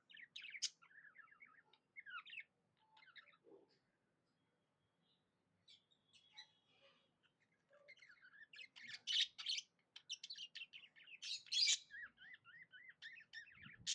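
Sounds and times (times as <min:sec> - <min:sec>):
budgies chirping and warbling: 0:00.0 - 0:03.8, 0:05.7 - 0:13.9.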